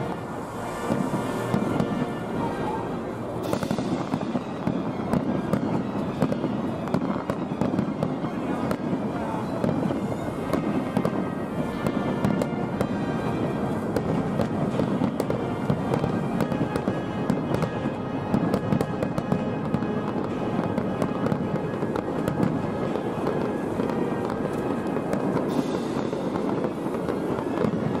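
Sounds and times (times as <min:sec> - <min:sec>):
fireworks crackling and popping: 0:00.0 - 0:28.0
music playing: 0:00.0 - 0:28.0.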